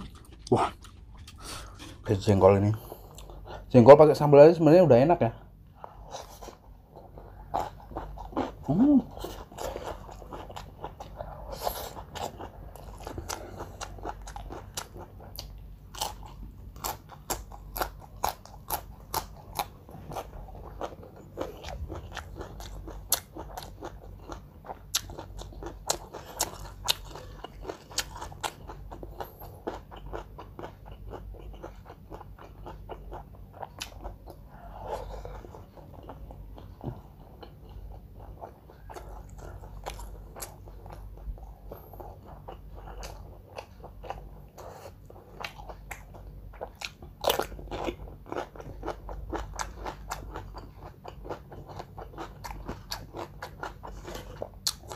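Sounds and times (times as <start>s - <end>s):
chewing crunchy food: 0.0s - 3.7s, 5.3s - 54.9s.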